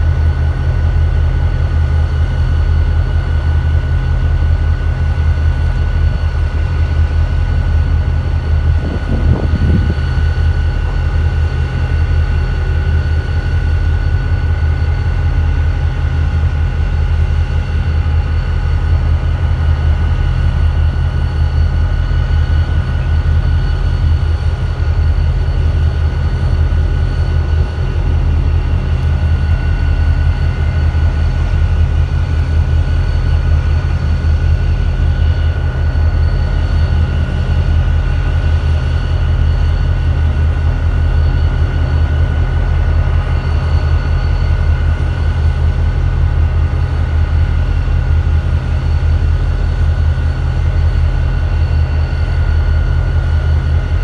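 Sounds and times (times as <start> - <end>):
diesel locomotive idling: 0.0 - 54.0
faint constant whine: 0.0 - 54.0.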